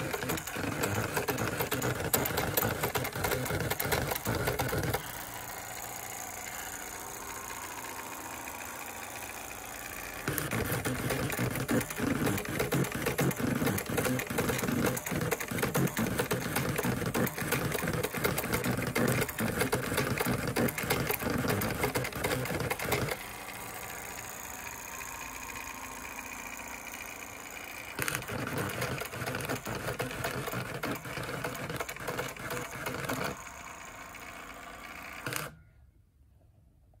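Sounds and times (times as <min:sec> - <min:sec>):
pen plotter buzzing and clicking: 0:00.0 - 0:35.6
plotter motor whirring: 0:00.0 - 0:35.6.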